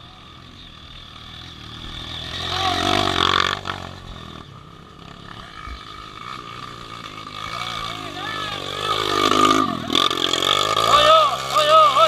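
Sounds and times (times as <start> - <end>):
vehicle engine revving hard: 1.2 - 4.5, 5.1 - 12.0.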